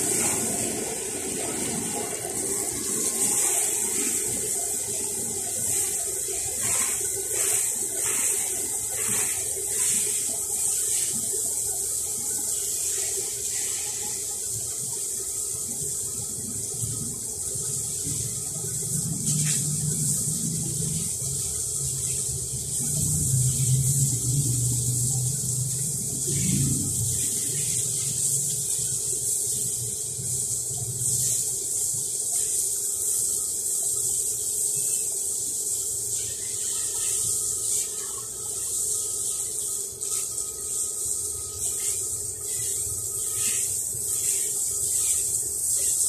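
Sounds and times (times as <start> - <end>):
hose water spraying and splashing: 0.0 - 46.0.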